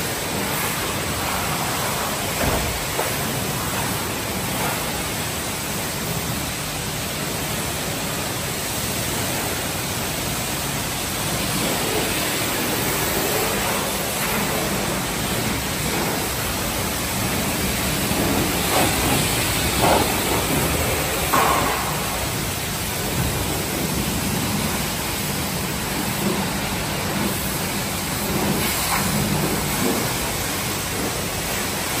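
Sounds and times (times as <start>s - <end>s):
high-pressure water spray hissing: 0.0s - 32.0s.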